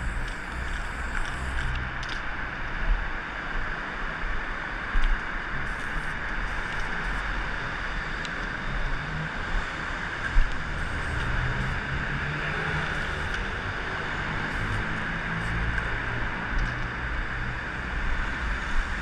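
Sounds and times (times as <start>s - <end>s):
cars passing on street: 0.0s - 19.0s.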